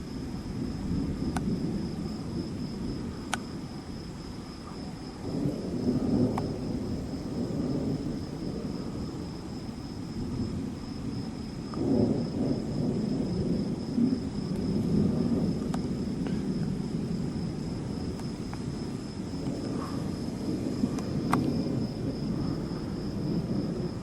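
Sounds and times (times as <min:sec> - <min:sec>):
distant thunder rumbling: 0:00.0 - 0:24.0.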